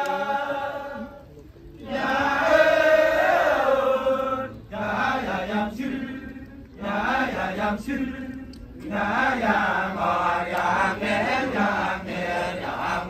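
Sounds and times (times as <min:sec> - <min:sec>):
chorus of men chanting: 0:00.0 - 0:13.0.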